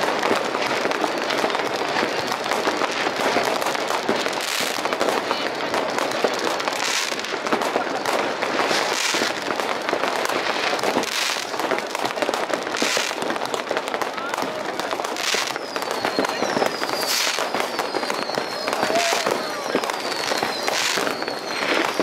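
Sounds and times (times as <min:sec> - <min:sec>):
dense crackle of firecrackers: 0:00.0 - 0:22.0
loud firework bursts: 0:00.0 - 0:22.0.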